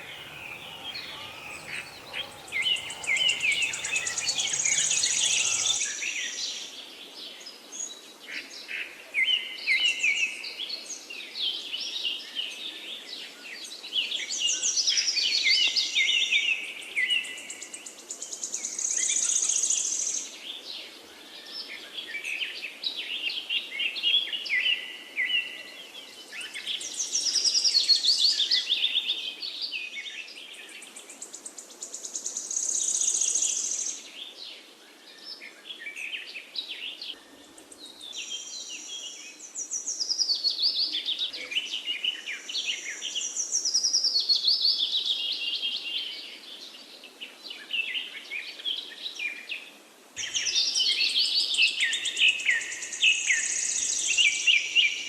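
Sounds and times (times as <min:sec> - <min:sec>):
songbirds singing and chirping: 0:00.0 - 0:06.7, 0:17.0 - 0:55.0.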